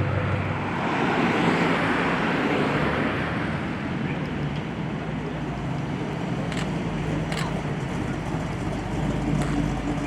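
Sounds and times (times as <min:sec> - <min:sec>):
constant rushing noise: 0:00.0 - 0:10.0.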